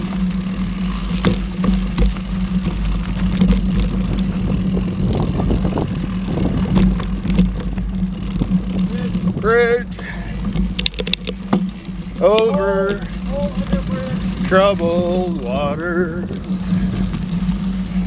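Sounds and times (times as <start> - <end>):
bike rattling and knocking: 0.0 - 18.0
bike tyres rumbling on trail: 0.0 - 18.0.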